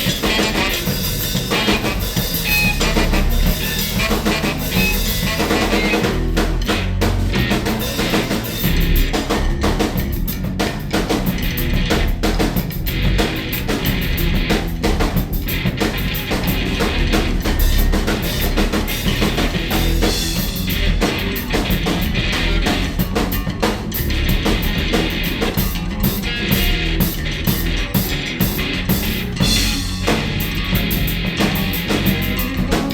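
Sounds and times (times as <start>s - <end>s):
drum kit hitting fast: 0.0s - 32.9s
free jazz band: 0.0s - 32.9s.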